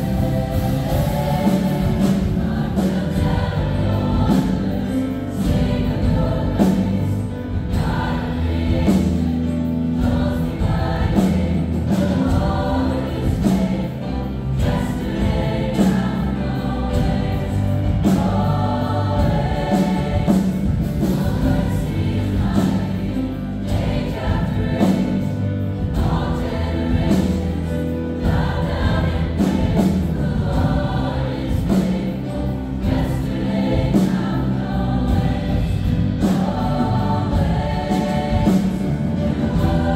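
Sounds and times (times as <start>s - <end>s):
bass: 0.0s - 39.9s
drums: 0.0s - 39.9s
gospel choir singing: 0.0s - 39.9s.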